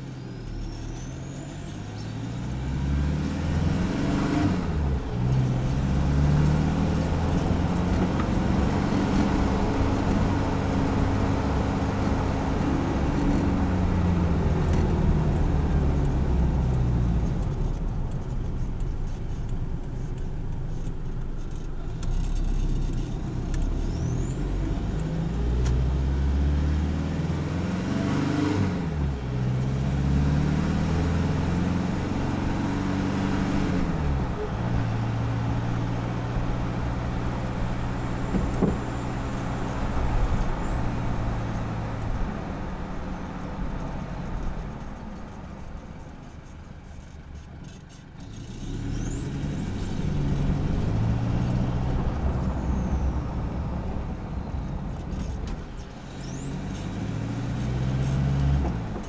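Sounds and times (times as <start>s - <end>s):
diesel engine accelerating: 0.0s - 59.0s.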